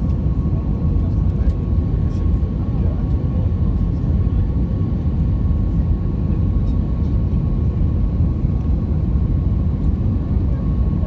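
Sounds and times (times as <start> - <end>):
airplane cabin engine drone: 0.0 - 11.0
engine whine: 0.0 - 11.0.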